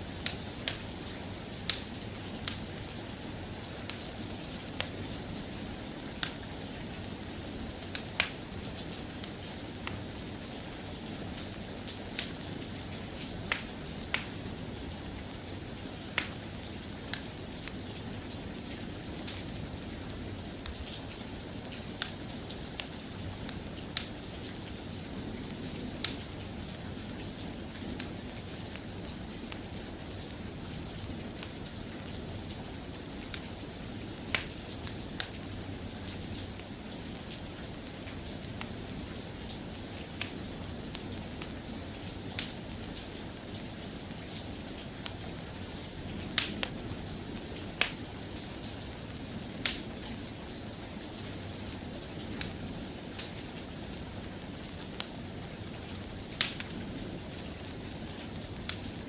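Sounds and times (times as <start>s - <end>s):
soft rain hissing: 0.0s - 59.0s.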